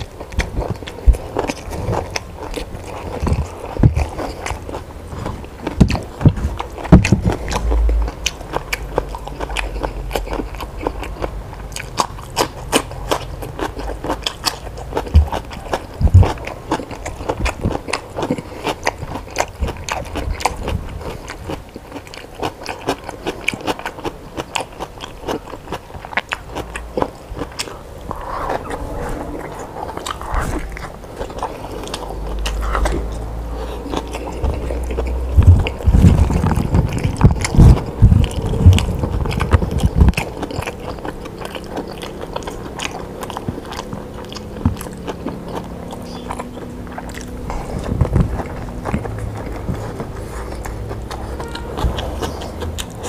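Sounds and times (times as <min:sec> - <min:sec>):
person biting and chewing food: 0:00.0 - 0:53.0.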